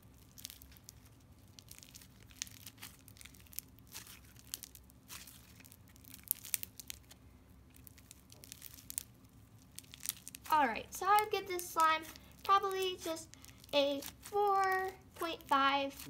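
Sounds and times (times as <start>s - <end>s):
slime crunching and crackling: 0.0s - 16.0s.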